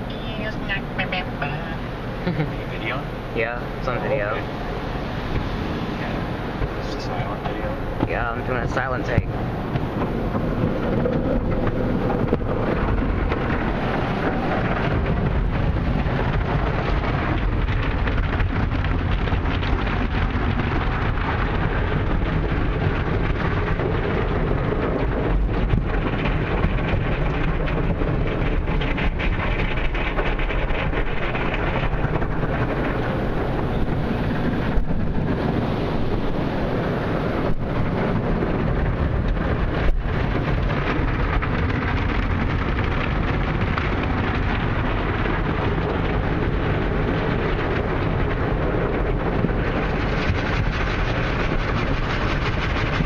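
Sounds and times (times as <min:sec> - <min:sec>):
car wash machinery running: 0:00.0 - 0:53.0
water spraying on car: 0:00.0 - 0:53.0.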